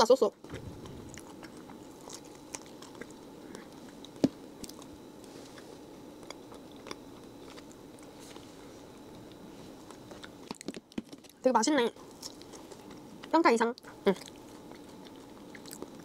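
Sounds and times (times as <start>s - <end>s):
person chewing: 0.5s - 11.4s, 12.0s - 16.0s.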